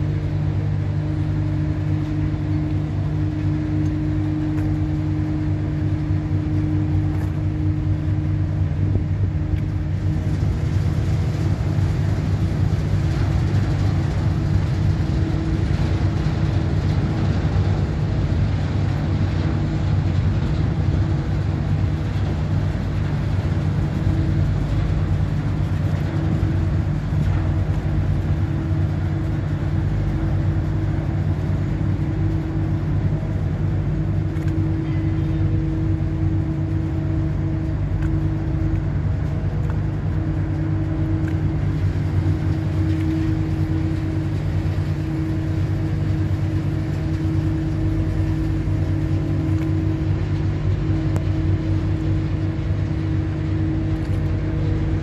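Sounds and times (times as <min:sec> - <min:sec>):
ship diesel engines droning: 0:00.0 - 0:55.0
steady hum: 0:00.0 - 0:55.0.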